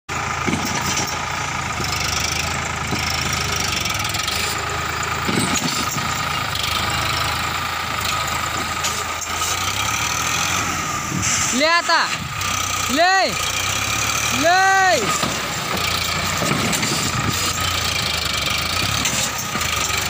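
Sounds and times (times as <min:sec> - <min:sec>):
tractor diesel engine straining: 0:00.1 - 0:20.0.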